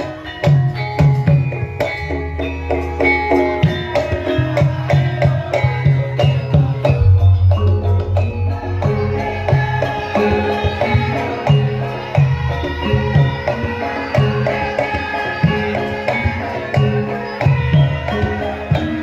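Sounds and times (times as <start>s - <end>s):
gamelan music: 0.0s - 19.0s
hand drum rhythm: 0.0s - 19.0s.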